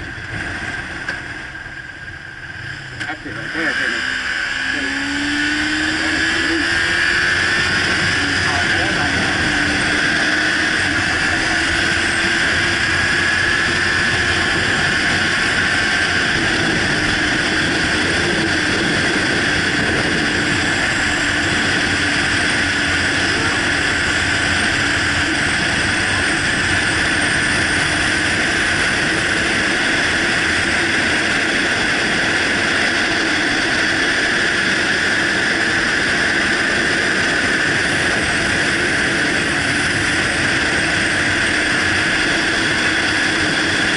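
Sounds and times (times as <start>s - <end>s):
motorcycle engine drone: 0.0s - 43.9s
wind rushing over microphone: 0.0s - 43.9s.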